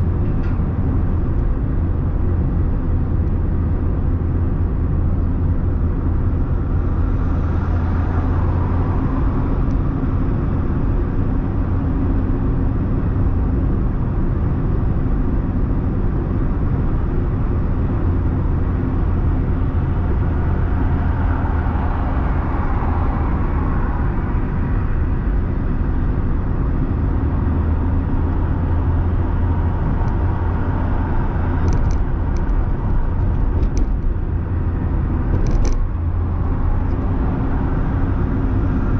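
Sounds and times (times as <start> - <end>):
car cabin engine rumble: 0.0 - 38.9.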